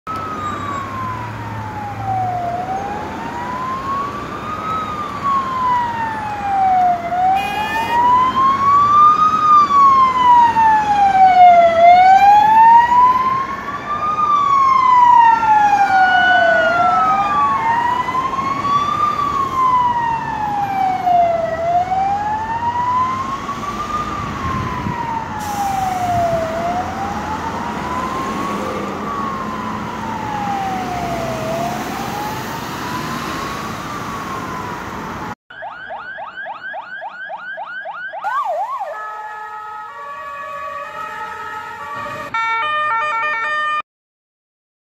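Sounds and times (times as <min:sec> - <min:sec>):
heavy motorway traffic: 0:00.0 - 0:43.8
police siren wailing: 0:00.1 - 0:43.8
second siren: 0:00.1 - 0:43.8.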